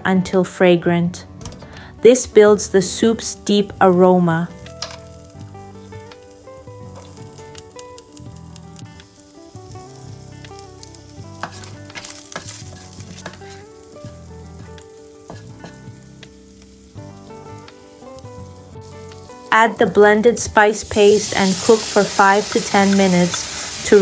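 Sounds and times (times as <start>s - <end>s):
spices sizzling in hot oil: 1.4s - 24.0s.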